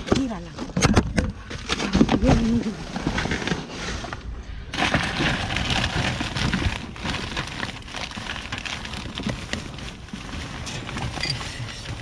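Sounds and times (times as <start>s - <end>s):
plastic bags rustling and crinkling: 1.4s - 12.0s.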